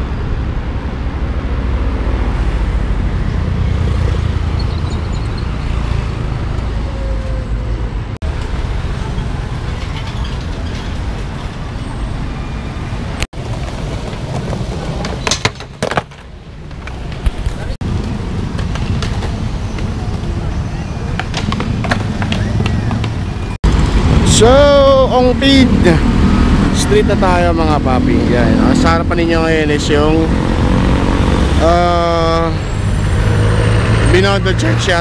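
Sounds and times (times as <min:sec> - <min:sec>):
motorcycles passing: 0:00.0 - 0:15.2, 0:16.9 - 0:35.0
cars passing: 0:00.0 - 0:35.0.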